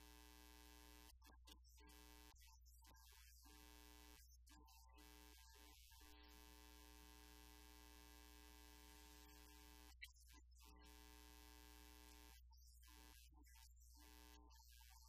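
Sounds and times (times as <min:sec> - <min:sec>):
faint steady tones: 0:00.0 - 0:15.0.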